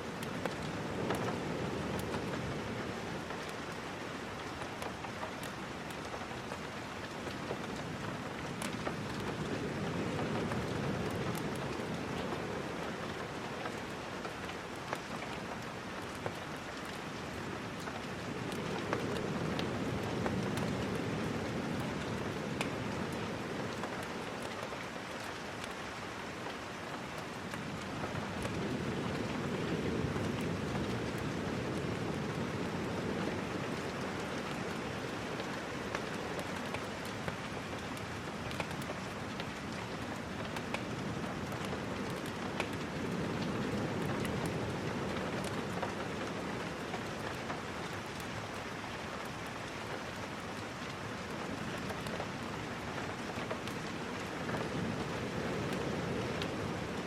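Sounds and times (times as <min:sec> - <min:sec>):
rain drops ticking: 0:00.0 - 0:57.0
rain rushing: 0:00.0 - 0:57.0.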